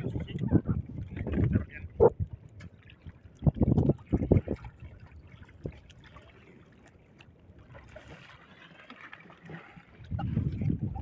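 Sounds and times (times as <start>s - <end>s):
seawater sloshing and lapping: 0.0s - 11.0s
water trickling: 0.0s - 11.0s.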